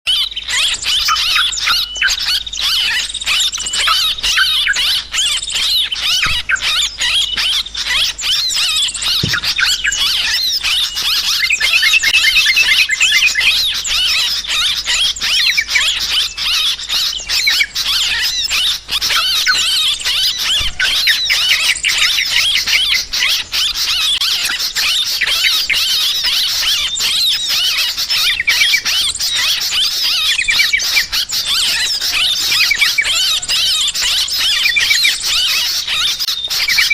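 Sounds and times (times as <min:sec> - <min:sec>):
chorus of birds chirping: 0:00.1 - 0:36.9.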